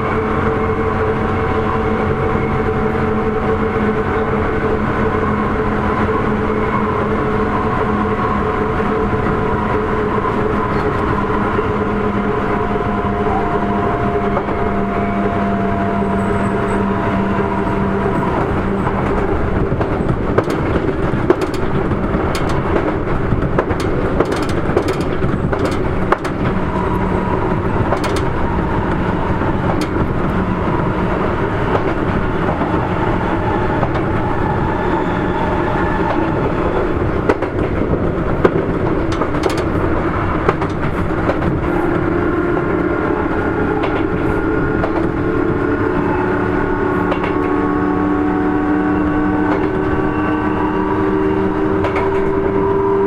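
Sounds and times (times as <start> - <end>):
rail joint clicks: 0.0 - 53.0
train wheel and track rumble: 0.0 - 53.0.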